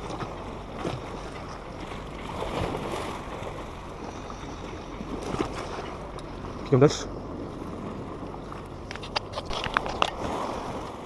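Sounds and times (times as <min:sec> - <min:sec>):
sea waves splashing against pier: 0:00.0 - 0:11.0.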